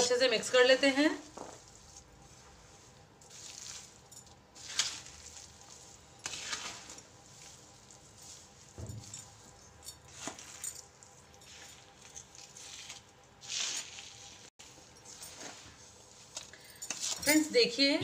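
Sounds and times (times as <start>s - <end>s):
spoon stirring crumbly mix in bowl: 1.2s - 17.9s.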